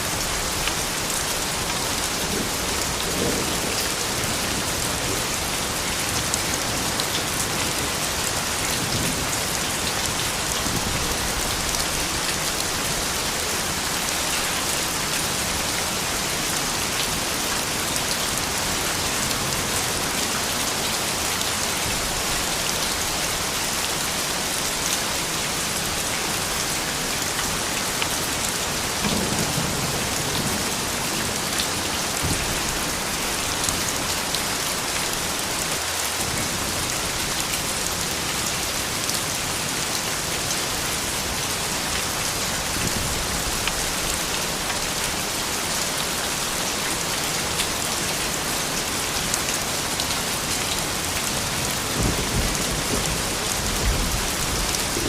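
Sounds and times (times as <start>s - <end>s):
rain spattering on surfaces: 0.0s - 55.0s.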